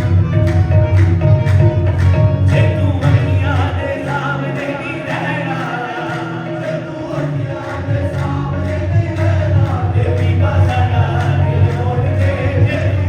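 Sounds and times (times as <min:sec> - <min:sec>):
percussion beat: 0:00.0 - 0:04.1, 0:06.0 - 0:13.0
heavy bass: 0:00.0 - 0:13.0
wavering sung vocals: 0:02.3 - 0:13.0.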